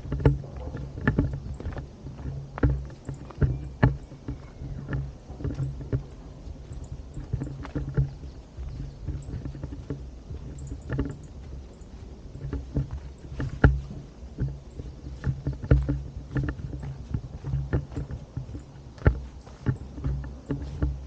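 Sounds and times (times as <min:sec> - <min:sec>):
microphone handling noise: 0:00.0 - 0:21.0
wind rumble: 0:00.0 - 0:21.0.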